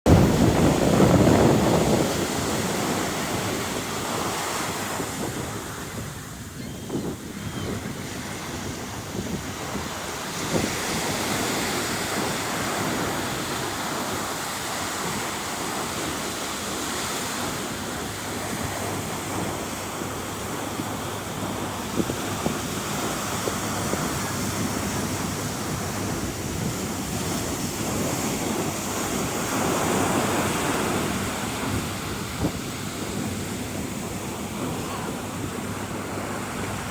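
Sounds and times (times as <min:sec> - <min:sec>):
wind buffeting microphone: 0:00.0 - 0:36.9
water rushing: 0:00.1 - 0:36.9.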